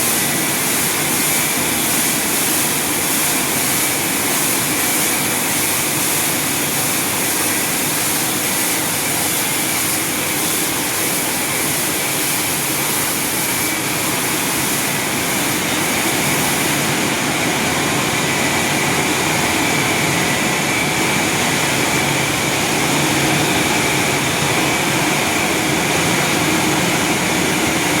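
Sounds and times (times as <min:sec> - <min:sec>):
car wash machinery rushing: 0:00.0 - 0:28.0.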